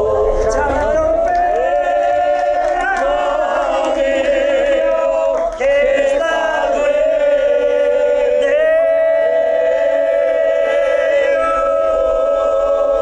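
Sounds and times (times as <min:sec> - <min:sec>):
group of men singing: 0:00.0 - 0:13.0.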